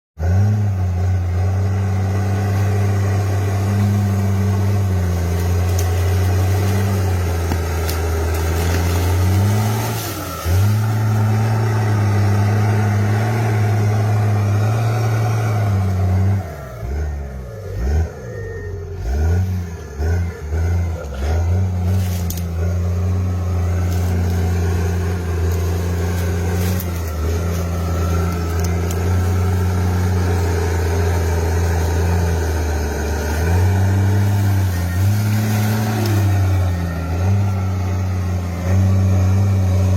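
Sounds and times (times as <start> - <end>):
bulldozer diesel engine running: 0.2 - 39.9.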